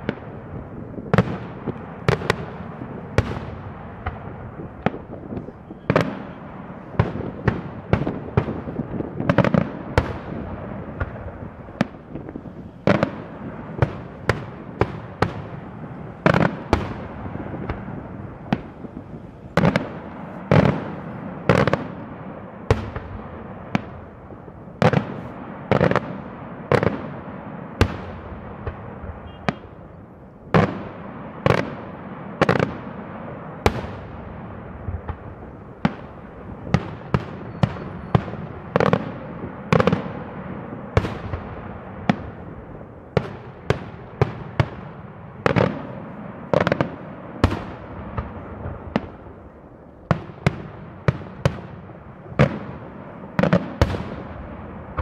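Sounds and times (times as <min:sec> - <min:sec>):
fireworks bangs: 0:00.0 - 0:55.0
rumbling crackle of fireworks: 0:00.0 - 0:55.0.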